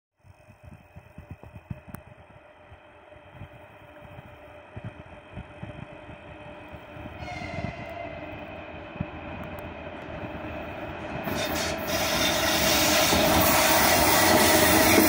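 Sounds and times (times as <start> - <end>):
faint locomotive whine: 0.2 - 15.0.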